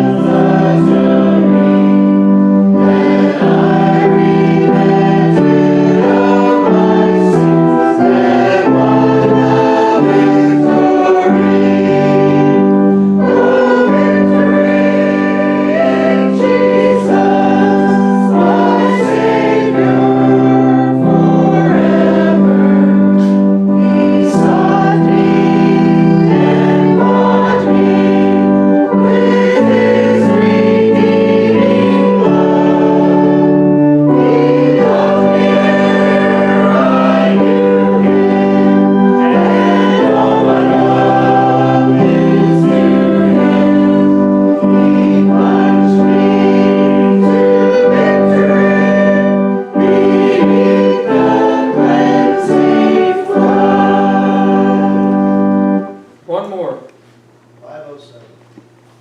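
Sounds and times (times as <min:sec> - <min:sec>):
congregation singing a hymn: 0:00.0 - 0:56.4.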